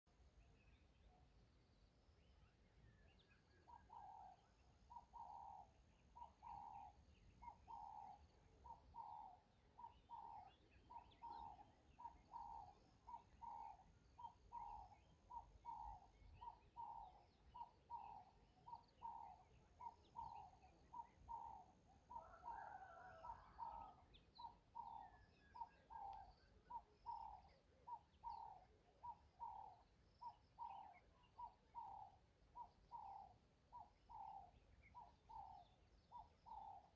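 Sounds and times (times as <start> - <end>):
bird calling faintly: 0.4 - 36.9.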